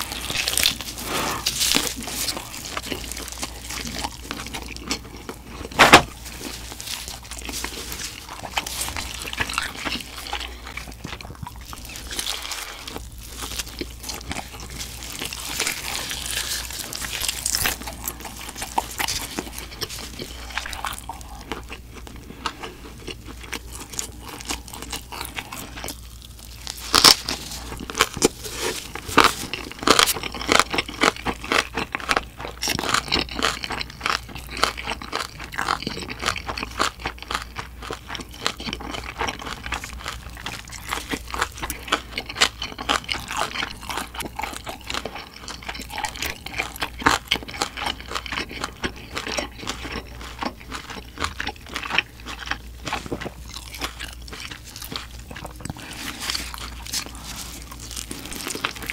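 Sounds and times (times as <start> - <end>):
wet chewing and biting: 0.0 - 58.9.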